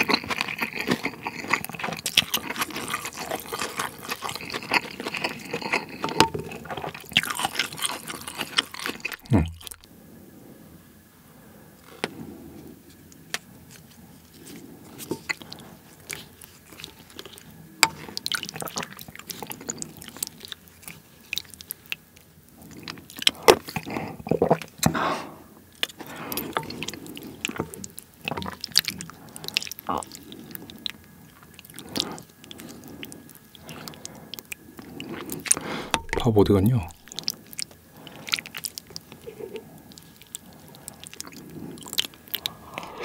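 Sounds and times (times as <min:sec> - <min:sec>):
chewing soup: 0:00.0 - 0:09.9, 0:11.8 - 0:43.0.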